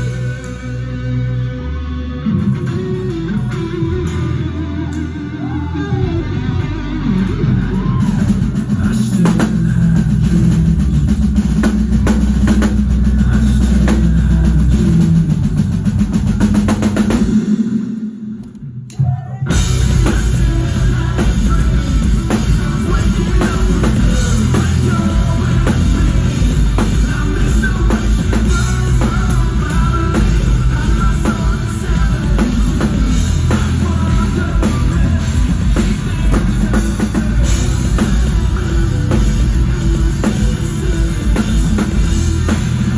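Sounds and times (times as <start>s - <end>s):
loud drum kit: 0.0s - 1.5s, 2.2s - 42.9s
rock band playing: 0.0s - 42.9s.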